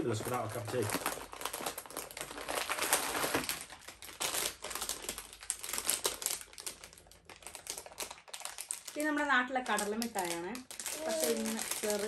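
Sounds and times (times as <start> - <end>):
plastic snack packets crackling: 0.0 - 12.0.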